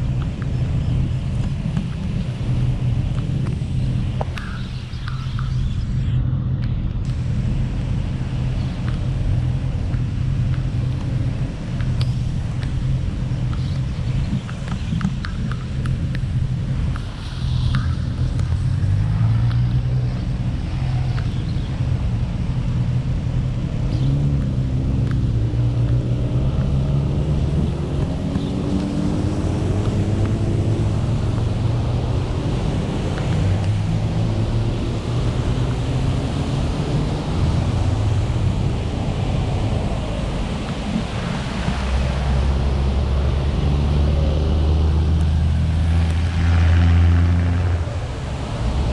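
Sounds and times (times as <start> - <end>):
car engine: 0.0 - 48.9
tyre noise on road: 0.0 - 48.9.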